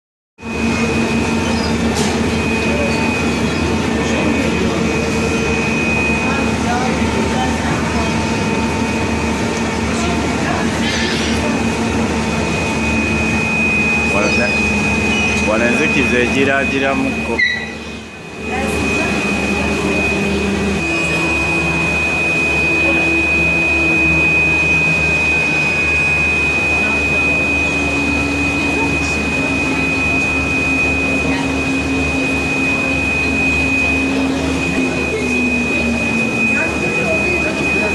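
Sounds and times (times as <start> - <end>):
mechanical hum with held tones: 0.4 - 37.9.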